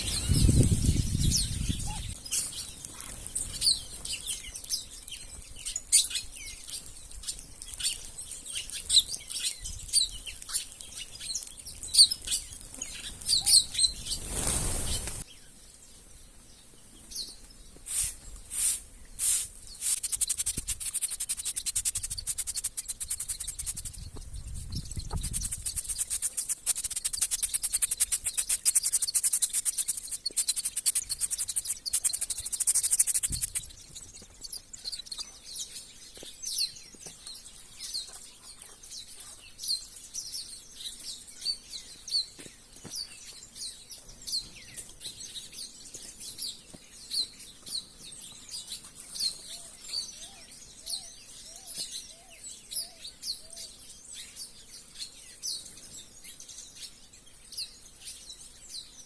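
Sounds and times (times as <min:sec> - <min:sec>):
flock of small birds chirping: 0:00.0 - 0:59.0.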